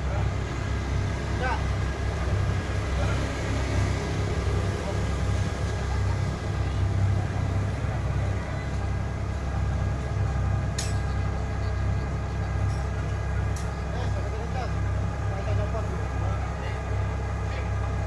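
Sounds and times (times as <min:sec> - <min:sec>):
large vehicle engine humming: 0:00.0 - 0:18.0.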